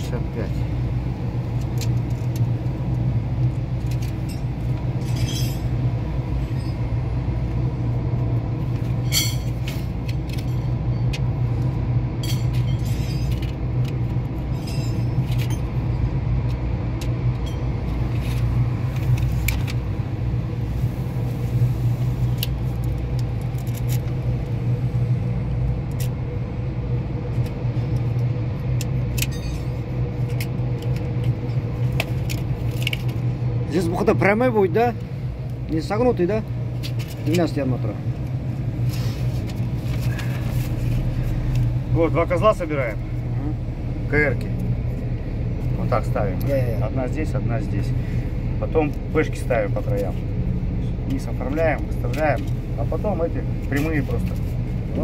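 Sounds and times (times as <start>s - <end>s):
low machine drone: 0.0s - 55.0s.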